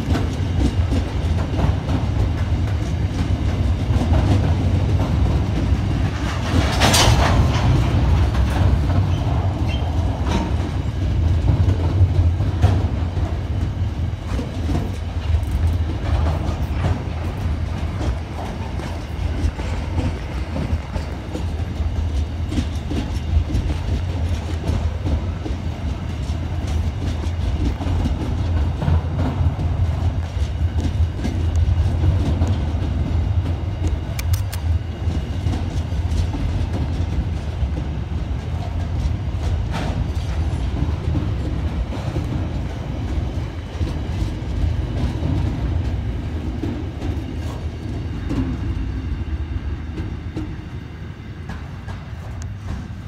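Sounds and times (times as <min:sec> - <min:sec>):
wheels clacking over rail joints: 0:00.0 - 0:48.9, 0:51.4 - 0:53.0
train wagons rumbling: 0:00.0 - 0:53.0.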